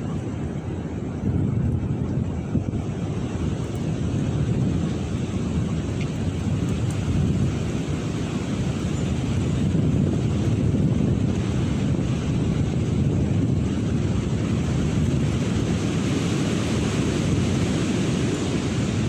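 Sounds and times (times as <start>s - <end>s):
wind blowing across microphone: 0.0s - 19.0s
wind buffeting a tent: 0.0s - 19.0s.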